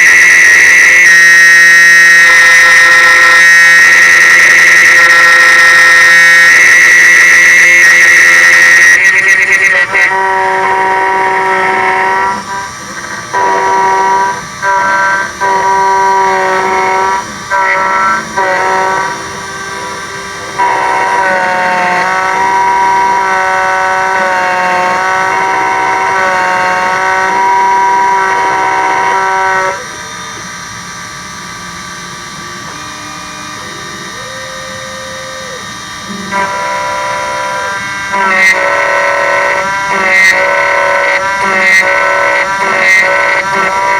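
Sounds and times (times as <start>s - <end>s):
key cutting machine whine: 0.0s - 43.9s.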